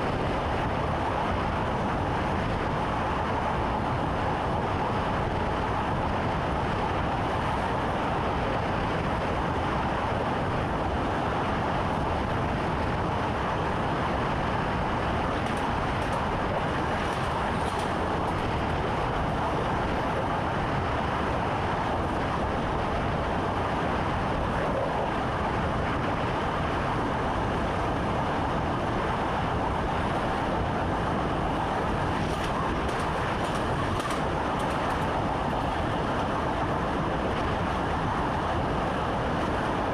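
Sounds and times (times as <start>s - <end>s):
train rolling noise: 0.0s - 39.9s.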